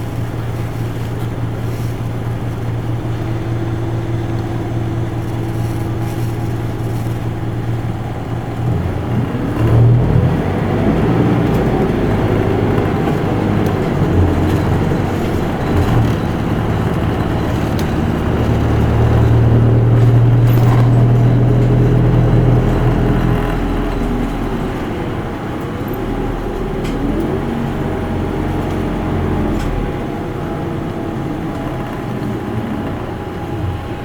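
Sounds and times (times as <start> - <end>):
bus diesel engine from inside: 0.0 - 34.0.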